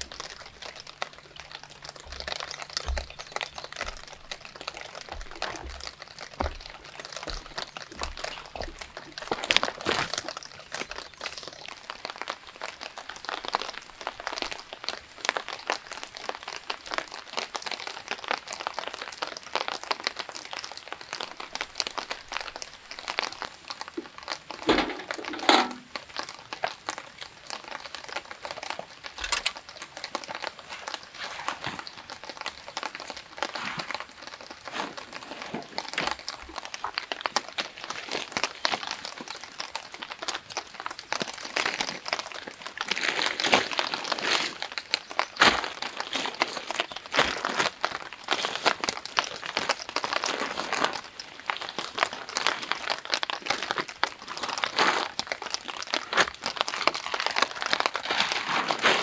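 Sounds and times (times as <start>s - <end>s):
rustling of plastic rain cover: 0.0s - 59.0s.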